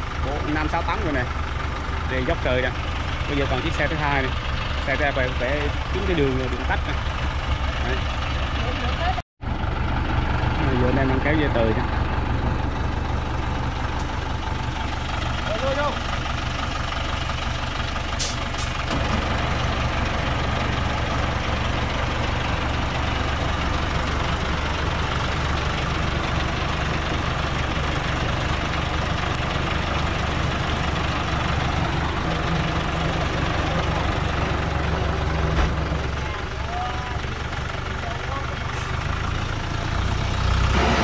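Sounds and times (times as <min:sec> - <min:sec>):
diesel truck engine idling: 0:00.0 - 0:41.0.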